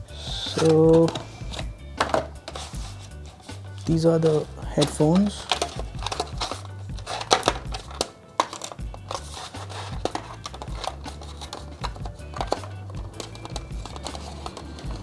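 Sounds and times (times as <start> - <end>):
music with low bass line: 0.0 - 8.0, 8.8 - 15.0
earphones packaging clicks: 0.0 - 15.0.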